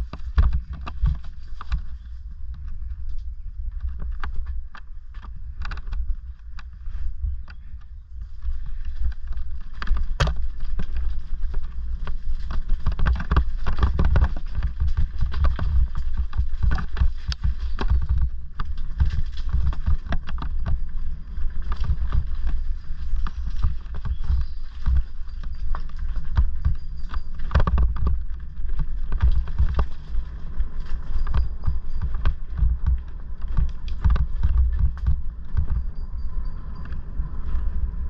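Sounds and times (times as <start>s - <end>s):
tyres crunching on stones: 0.0s - 37.8s
bike rattling and knocking: 0.0s - 38.0s
low rumble: 0.0s - 38.0s.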